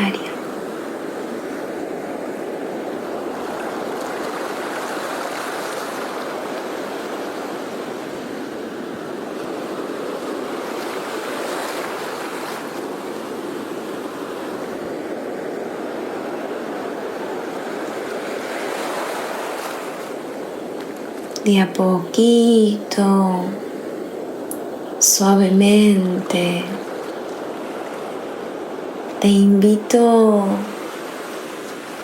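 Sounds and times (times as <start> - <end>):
sea waves washing on shore: 0.0 - 32.0.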